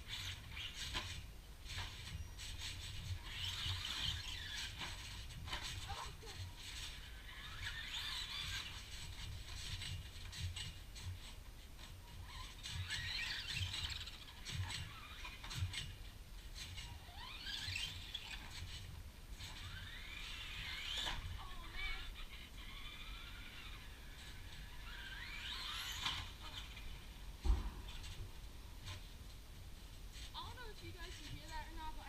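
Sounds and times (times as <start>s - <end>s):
rc car motor whining: 0.0s - 27.2s.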